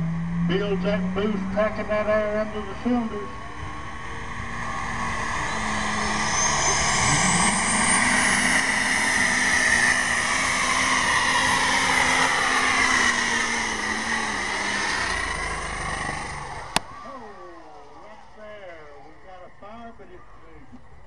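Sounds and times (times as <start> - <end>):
tractor diesel engine revving: 0.0 - 19.5
turbo whine: 0.0 - 21.0.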